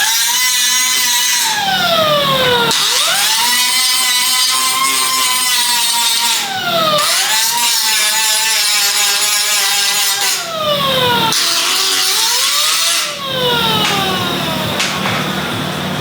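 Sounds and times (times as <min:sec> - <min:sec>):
electric grinder on metal: 0:00.0 - 0:16.0.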